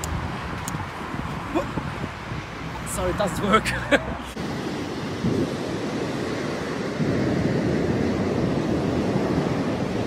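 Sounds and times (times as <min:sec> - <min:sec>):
wind on microphone: 0:00.0 - 0:10.0
surf washing: 0:01.3 - 0:10.0.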